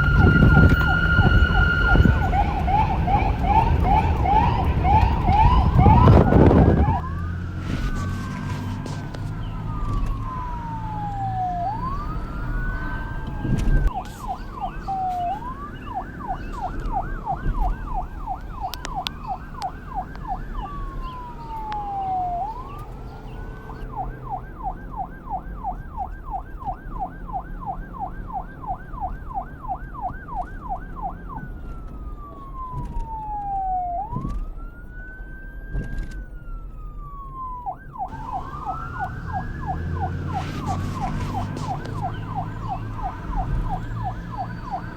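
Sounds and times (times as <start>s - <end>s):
police siren wailing and yelping: 0.0s - 44.9s.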